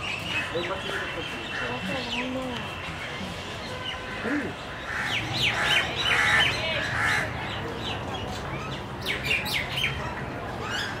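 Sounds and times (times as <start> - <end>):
birds chirping and squawking: 0.0 - 11.0.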